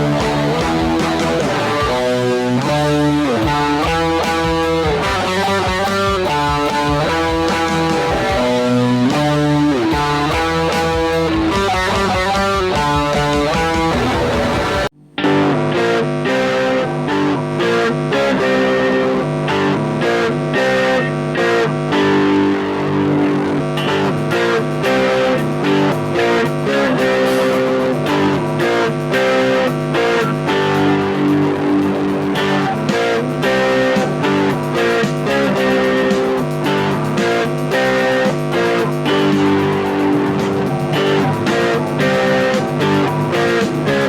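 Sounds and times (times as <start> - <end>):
electric guitar rock riff: 0.0 - 44.0.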